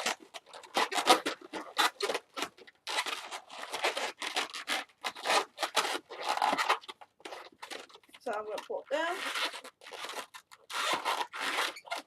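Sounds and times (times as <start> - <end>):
rubber balloon rubbing and scratching: 0.0 - 12.0.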